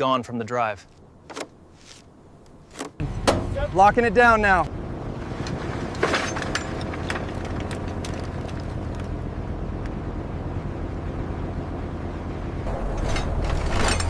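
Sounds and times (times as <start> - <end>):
low mechanical hum: 1.0 - 14.0.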